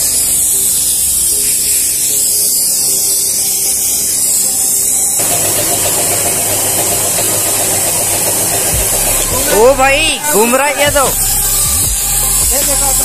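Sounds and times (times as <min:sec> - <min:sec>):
air blower hissing: 0:00.0 - 0:13.0.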